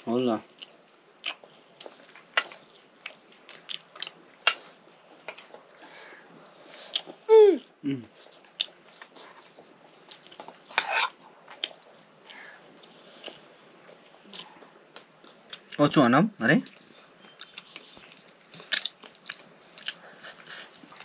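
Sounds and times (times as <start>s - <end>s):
person chewing and eating: 0.4s - 15.8s, 16.6s - 21.0s.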